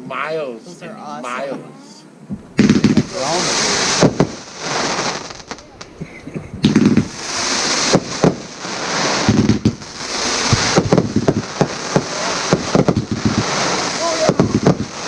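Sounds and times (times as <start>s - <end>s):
fireworks bangs and pops: 2.3s - 15.0s
fireworks hiss: 2.3s - 15.0s.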